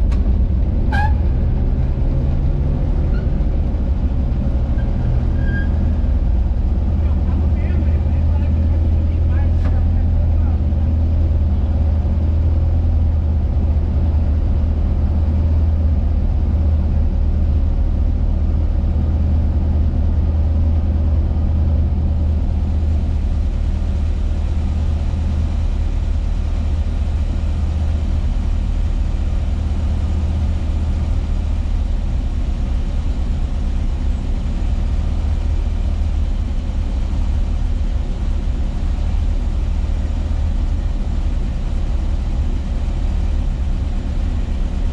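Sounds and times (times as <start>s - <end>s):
van engine droning: 0.0s - 44.9s.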